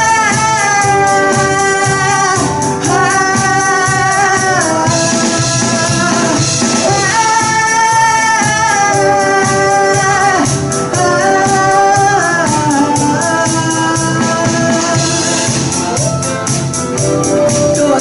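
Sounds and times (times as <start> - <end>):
lead singer holding notes: 0.0 - 18.0
pop band playing: 0.0 - 18.0
shaken percussion beat: 0.0 - 18.0.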